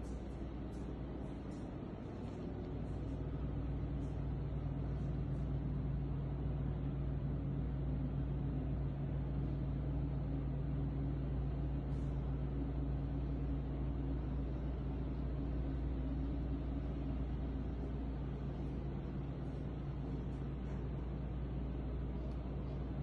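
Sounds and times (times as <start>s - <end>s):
low machine hum: 0.0s - 23.0s
rumbling background noise: 0.0s - 23.0s.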